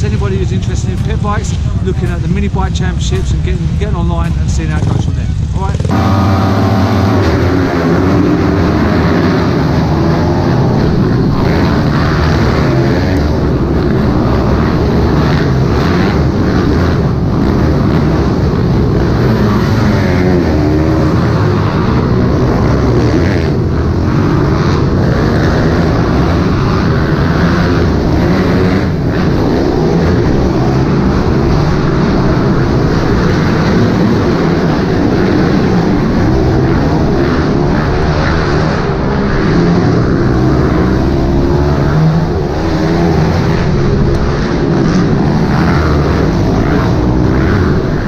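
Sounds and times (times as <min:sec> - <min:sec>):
small motorbikes revving: 0:00.0 - 0:48.0.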